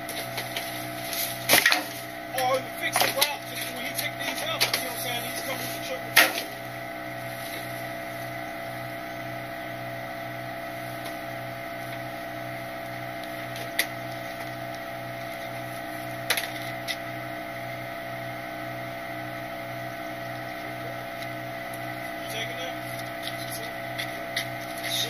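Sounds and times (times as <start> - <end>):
garbage truck idling: 0.0 - 25.0.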